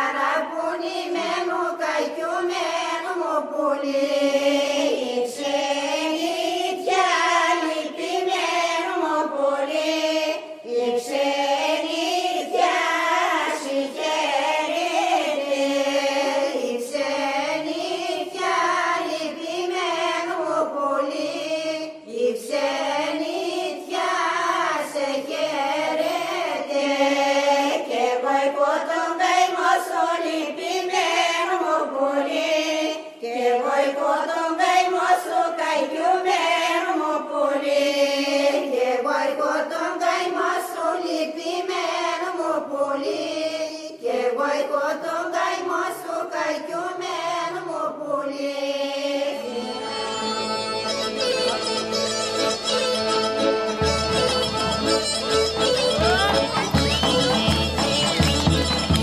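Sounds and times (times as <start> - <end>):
church chanting: 0.0 - 53.8.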